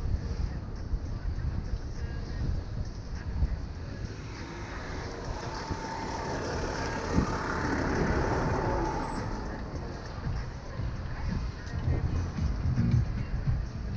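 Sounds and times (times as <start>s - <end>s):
bus whine: 0.0s - 13.8s
wind buffeting microphone: 0.0s - 13.9s
wheels rolling over asphalt: 0.1s - 12.2s.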